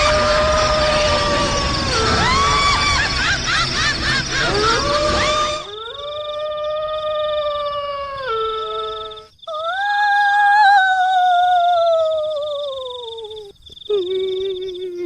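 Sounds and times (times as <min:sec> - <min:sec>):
long howling wails: 0:00.0 - 0:12.8.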